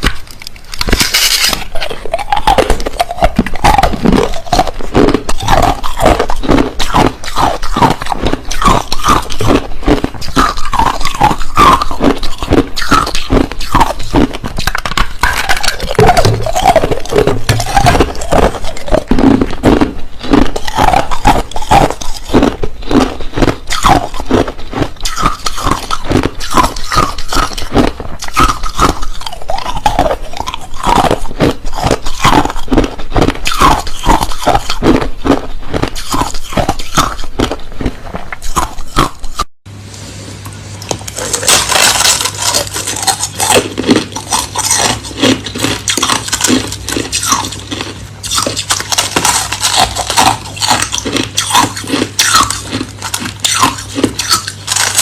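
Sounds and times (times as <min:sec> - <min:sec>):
crushed ice being chewed: 0:00.0 - 0:39.5, 0:40.4 - 0:55.0.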